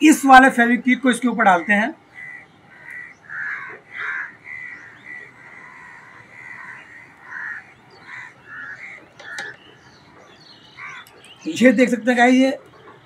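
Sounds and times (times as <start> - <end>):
crows cawing: 1.0 - 11.7.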